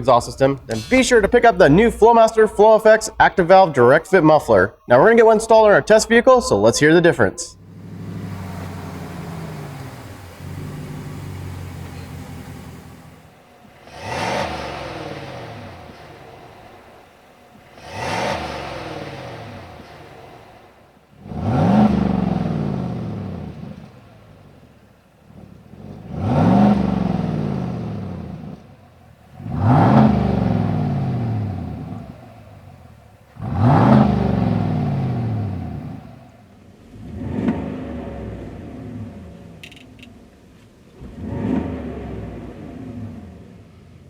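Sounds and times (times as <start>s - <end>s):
engine exhaust revving: 0.0s - 4.2s, 4.9s - 44.0s.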